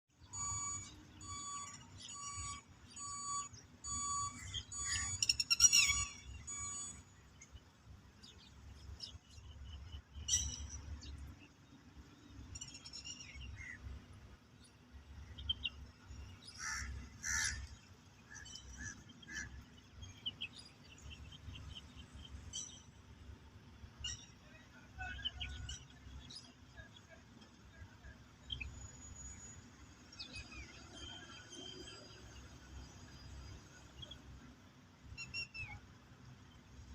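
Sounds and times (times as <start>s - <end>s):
birds whistling and chirping: 0.2s - 13.9s, 14.5s - 23.0s, 24.0s - 32.1s, 35.1s - 36.0s.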